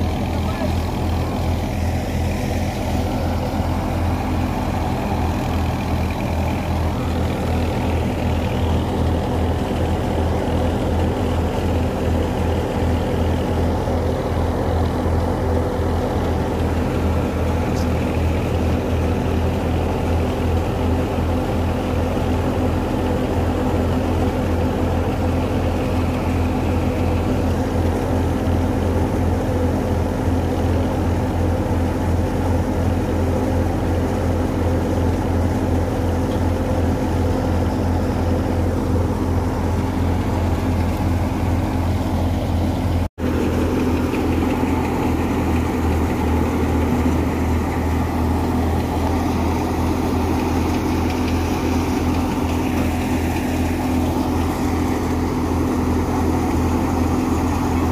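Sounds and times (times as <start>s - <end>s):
thresher machine drone: 0.0s - 57.9s.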